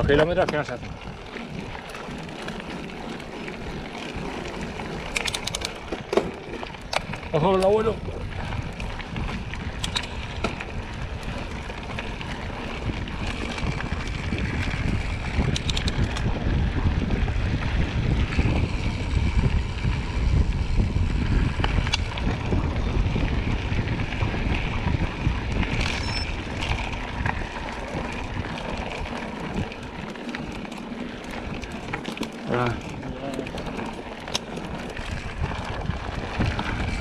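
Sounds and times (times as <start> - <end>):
bike rattling: 0.0 - 37.0
wind buffeting microphone: 0.0 - 37.0.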